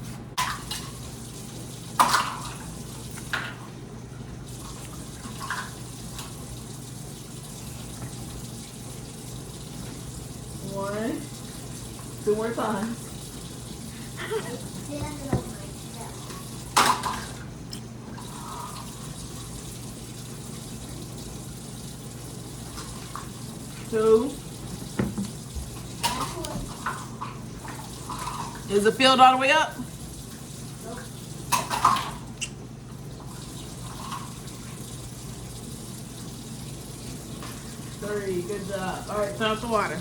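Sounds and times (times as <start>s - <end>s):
tap water filling a cup: 0.4s - 28.7s, 29.8s - 40.0s.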